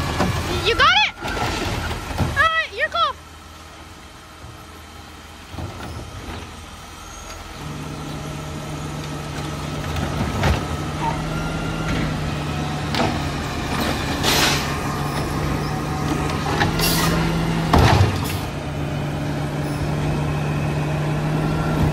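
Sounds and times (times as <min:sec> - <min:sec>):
garbage truck engine: 0:00.0 - 0:21.9.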